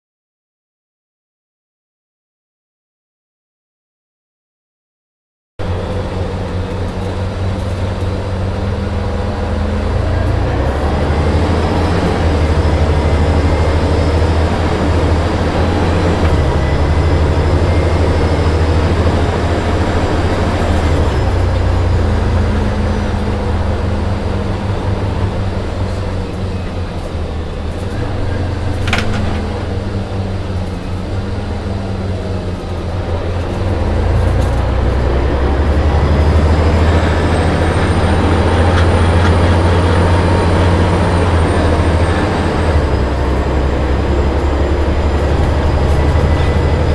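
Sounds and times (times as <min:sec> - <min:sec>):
diesel engine drone: 0:05.6 - 0:46.9
road noise: 0:05.6 - 0:46.9.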